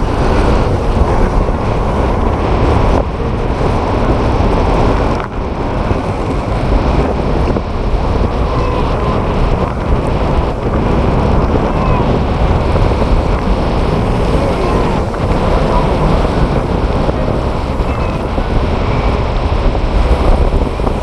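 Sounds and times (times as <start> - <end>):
waves washing: 0.0 - 21.0
wind buffeting microphone: 0.0 - 21.0.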